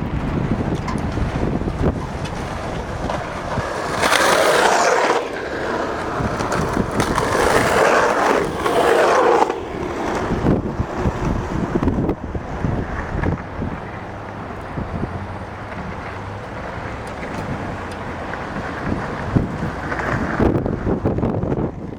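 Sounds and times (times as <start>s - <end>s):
skateboard rolling: 0.0s - 21.9s
wind rumbling on microphone: 0.0s - 21.9s.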